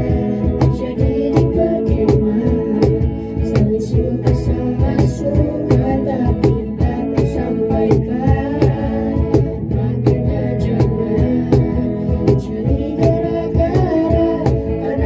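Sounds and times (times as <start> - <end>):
drum kit steady beat: 0.0 - 15.0
guitars: 0.0 - 15.0
vocal group singing: 0.0 - 15.0.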